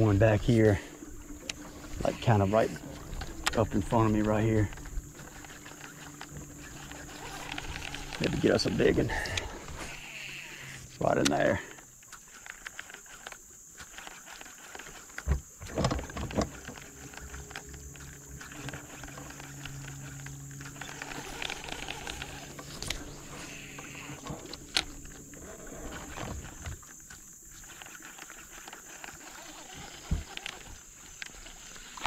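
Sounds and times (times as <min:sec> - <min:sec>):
steady low hum: 0:00.0 - 0:28.6
scattered clicks: 0:01.4 - 0:09.5, 0:11.0 - 0:15.3, 0:16.2 - 0:32.0.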